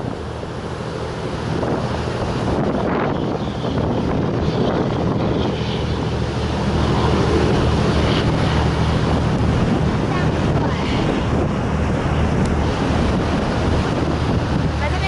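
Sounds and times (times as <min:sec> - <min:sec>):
rough sea surging: 0:00.0 - 0:15.0
strong wind buffeting microphone: 0:00.0 - 0:15.0.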